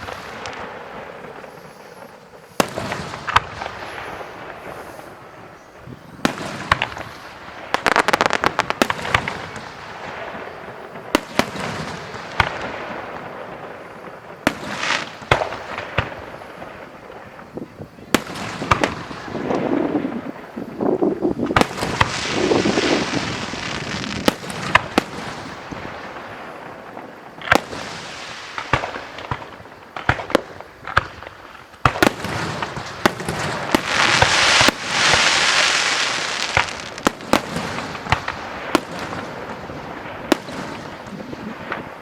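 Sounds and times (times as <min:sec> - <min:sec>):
fireworks bangs: 0:00.0 - 0:42.0
fireworks crackle and hiss: 0:00.0 - 0:42.0.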